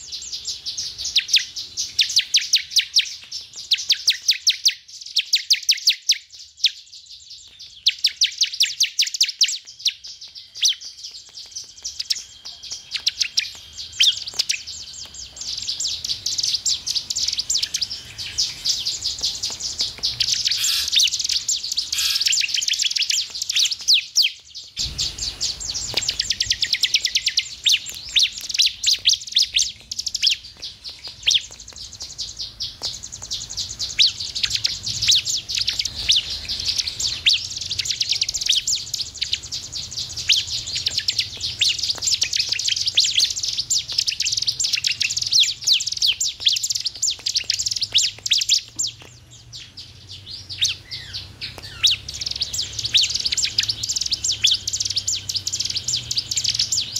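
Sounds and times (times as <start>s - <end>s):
bird singing rapid chip notes: 0.0s - 56.9s.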